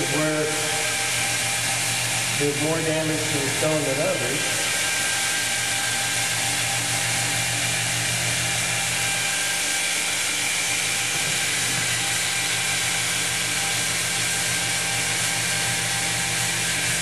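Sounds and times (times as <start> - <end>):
stone polisher grinding wet stone: 0.0 - 17.0.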